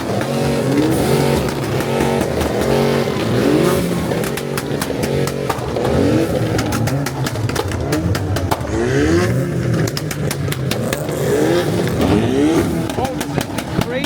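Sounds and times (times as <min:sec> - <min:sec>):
engines revving: 0:00.0 - 0:14.0
sharp cracks: 0:00.0 - 0:14.0.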